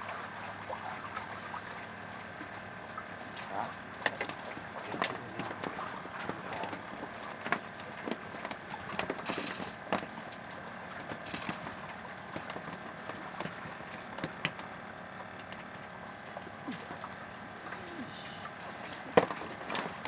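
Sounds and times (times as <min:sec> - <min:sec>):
motor running steadily: 0:00.0 - 0:20.0.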